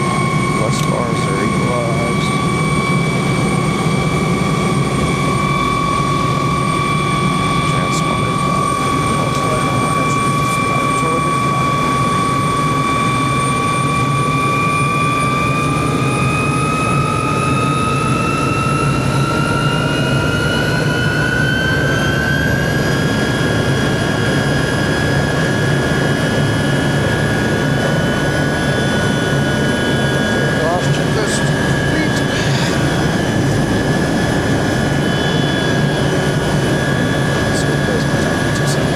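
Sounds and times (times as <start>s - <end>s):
helicopter rotor thrum: 0.0s - 38.9s
helicopter turbine whine: 0.0s - 38.9s.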